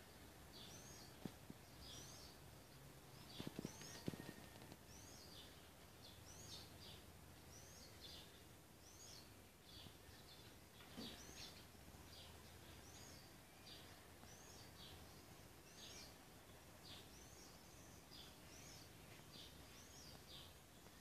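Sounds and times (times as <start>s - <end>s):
bird singing faintly: 0.0s - 21.0s
low background noise: 0.0s - 21.0s.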